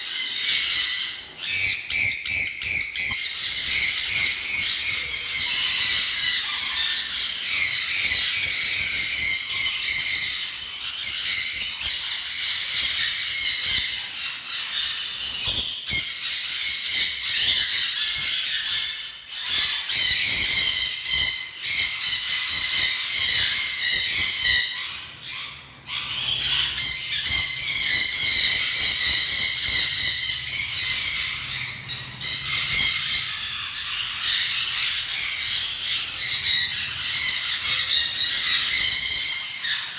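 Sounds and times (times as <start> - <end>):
caged birds chattering and squawking: 0.0 - 39.9.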